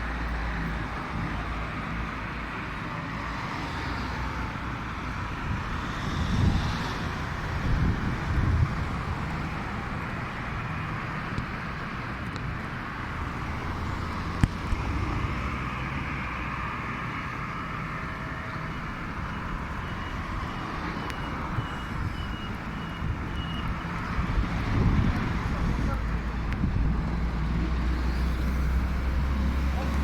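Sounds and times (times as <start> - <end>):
cars and trucks passing: 0.0 - 30.0.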